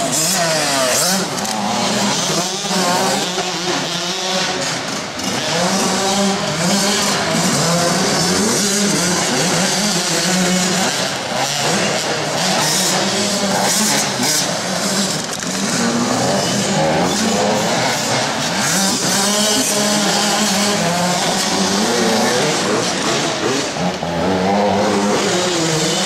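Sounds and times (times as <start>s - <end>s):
racing engine revving: 0.0s - 26.0s.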